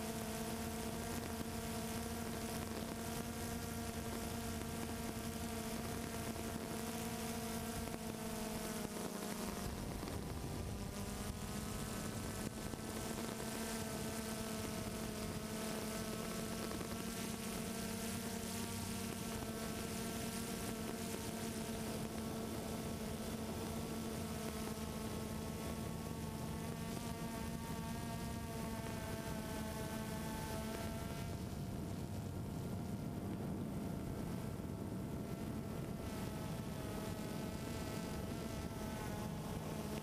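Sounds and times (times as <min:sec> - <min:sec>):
drone propellers buzzing: 0:00.5 - 0:40.0.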